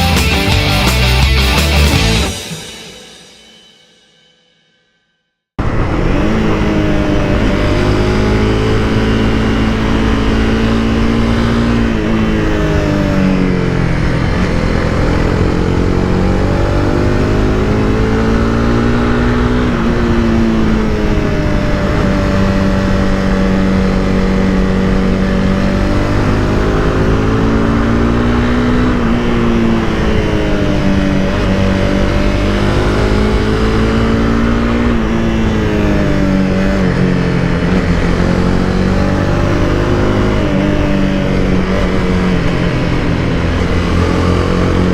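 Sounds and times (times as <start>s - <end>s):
motorcycle engine accelerating: 0.0s - 3.0s, 5.6s - 44.9s
wind rushing: 5.6s - 44.9s.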